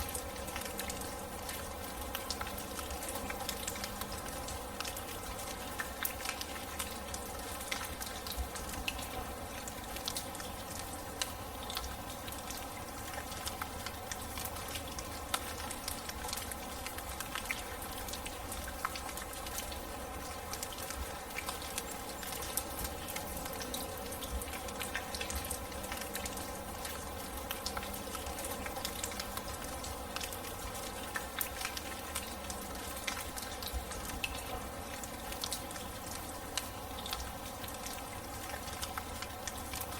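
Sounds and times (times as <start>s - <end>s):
raindrops pattering: 0.0s - 39.9s
steady rain falling: 0.0s - 39.9s.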